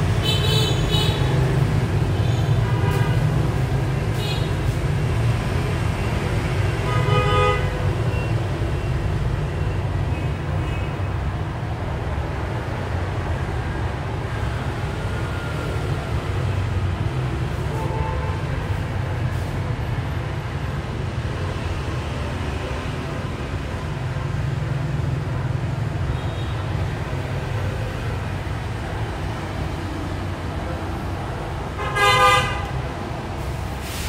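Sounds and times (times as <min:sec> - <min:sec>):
low rumble of street traffic: 0:00.0 - 0:34.0.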